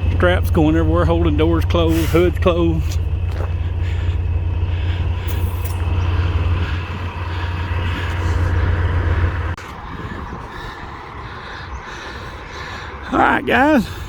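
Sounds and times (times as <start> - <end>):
outdoor noise: 0.0 - 14.0
truck engine idling: 0.0 - 14.0.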